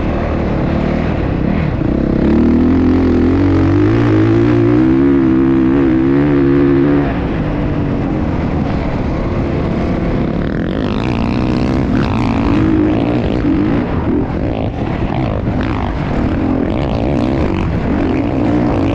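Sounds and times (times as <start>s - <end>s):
motocross bike engines revving: 0.0s - 18.9s.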